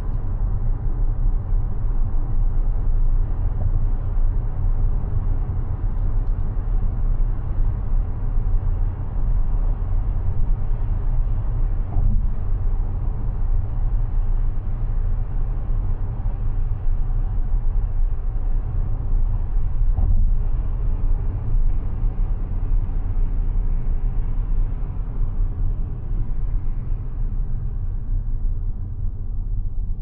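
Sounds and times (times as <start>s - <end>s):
road and tyre rumble: 0.0s - 30.0s.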